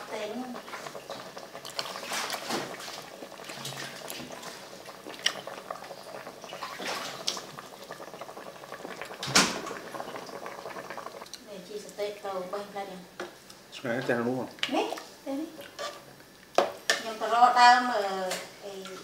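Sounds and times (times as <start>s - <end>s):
soup bubbling and popping: 0.0s - 12.0s, 13.2s - 17.1s.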